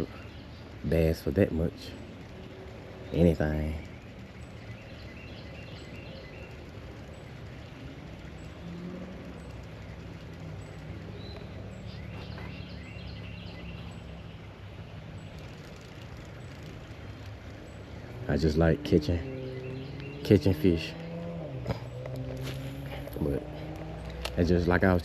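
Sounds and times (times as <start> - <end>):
birds chirping: 0.0 - 25.0
low steady drone: 0.0 - 25.0
outdoor background noise: 0.0 - 25.0.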